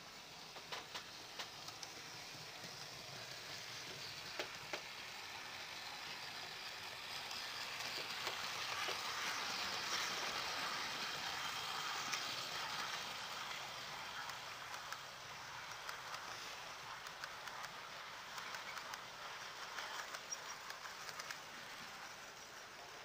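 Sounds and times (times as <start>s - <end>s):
model train rumbling on track: 0.0s - 23.0s
wheels clicking over rail joints: 0.3s - 23.0s.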